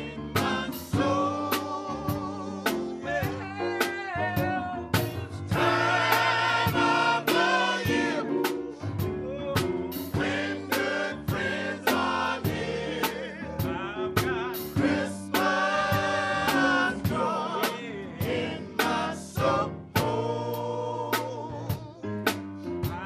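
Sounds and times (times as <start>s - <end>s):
men's choir singing: 0.0s - 3.9s, 5.5s - 22.2s
steady drum beat: 0.0s - 23.0s.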